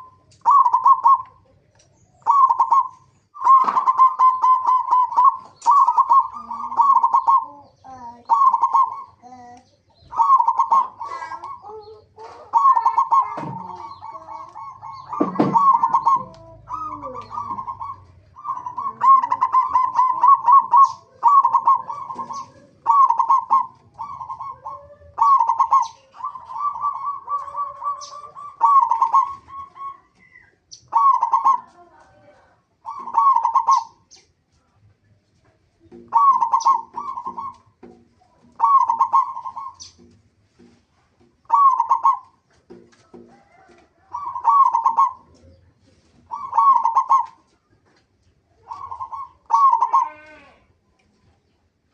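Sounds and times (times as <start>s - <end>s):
dove cooing: 0.0s - 34.1s, 35.8s - 40.7s, 41.4s - 47.8s, 48.5s - 50.6s.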